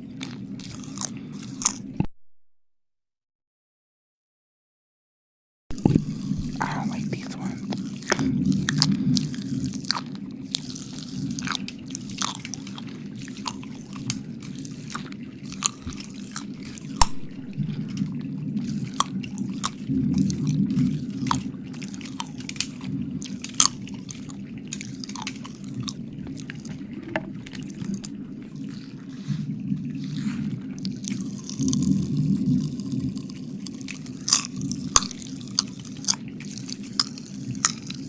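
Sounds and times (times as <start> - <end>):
low steady hum: 0.0 - 2.1, 5.7 - 38.0
wet mouth sounds licking and chewing: 0.0 - 2.1, 5.7 - 38.0.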